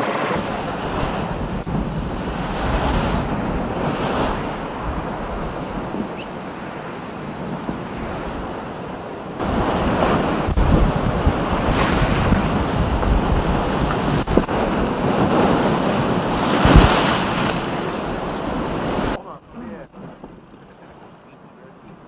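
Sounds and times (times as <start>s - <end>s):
wind buffeting microphone: 0.0s - 21.2s
water rushing: 0.0s - 22.0s.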